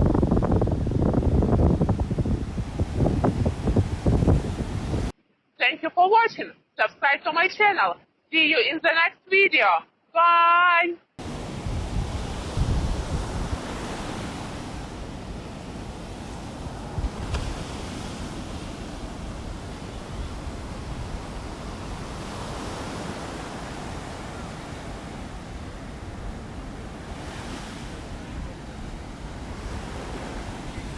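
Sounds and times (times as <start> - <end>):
surf washing onto beach: 0.0 - 5.1, 11.2 - 30.9
wind on microphone: 0.0 - 5.1, 11.2 - 30.9.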